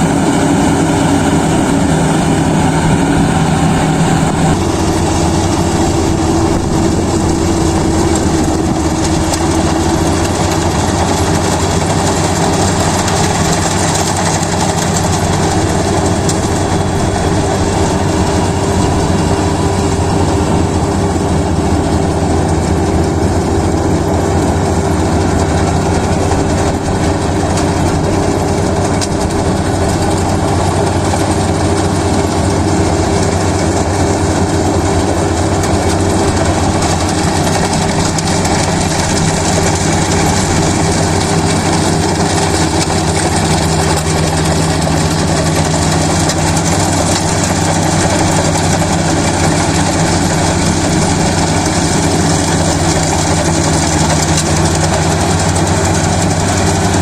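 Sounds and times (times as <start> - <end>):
combine harvester machinery humming: 0.0 - 57.0.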